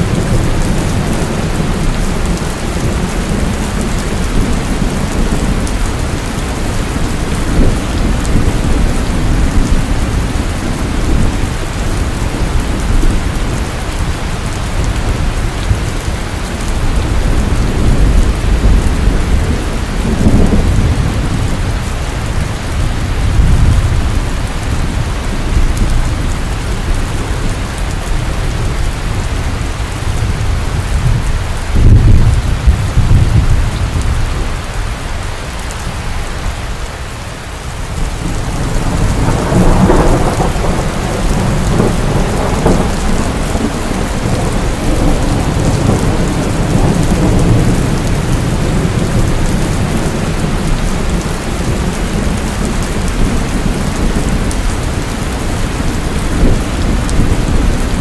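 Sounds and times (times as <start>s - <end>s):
thunder rumbling: 0.0s - 36.7s, 37.8s - 58.0s
heavy rain: 0.0s - 58.0s.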